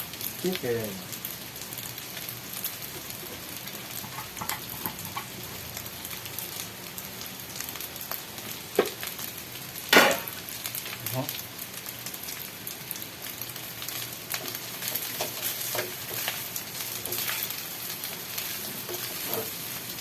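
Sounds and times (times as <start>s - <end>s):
rice sizzling in a pan: 0.0s - 20.0s.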